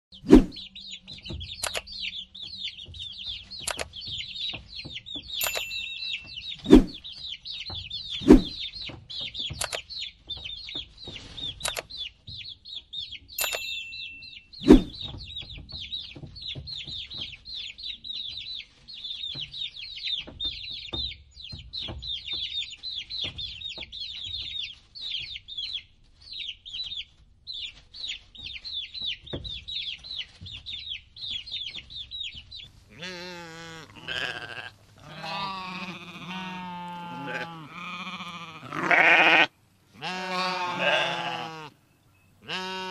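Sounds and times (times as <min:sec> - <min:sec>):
chicks peeping: 0:00.1 - 0:13.4, 0:14.0 - 0:38.6.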